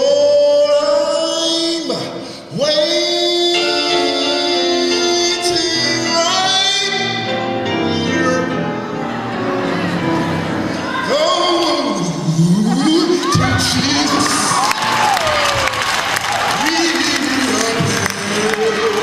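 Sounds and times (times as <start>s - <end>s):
lead voice singing gospel: 0.0s - 19.0s
backing voices singing: 2.6s - 19.0s.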